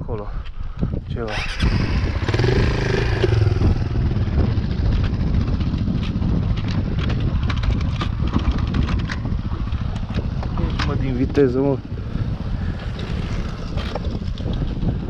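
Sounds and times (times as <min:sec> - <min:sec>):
dirt bike engine at low revs: 0:00.9 - 0:15.0.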